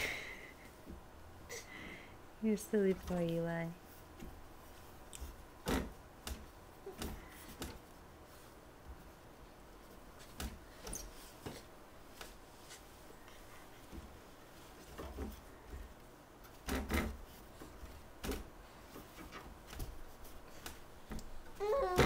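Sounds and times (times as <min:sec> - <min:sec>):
baby bumping crib and bedding: 0:02.5 - 0:22.0.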